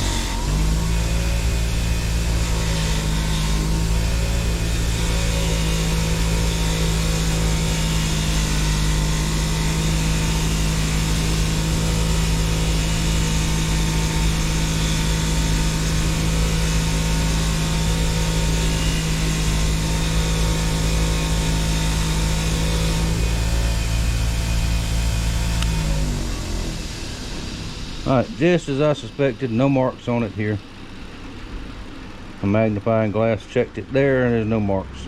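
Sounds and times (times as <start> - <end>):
wire wheel motor hum: 0.0 - 35.0.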